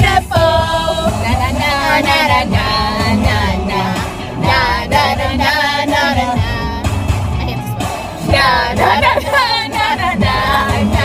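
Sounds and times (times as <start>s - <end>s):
women singing along: 0.0s - 7.0s, 7.8s - 11.0s
pop song playing: 0.0s - 11.0s.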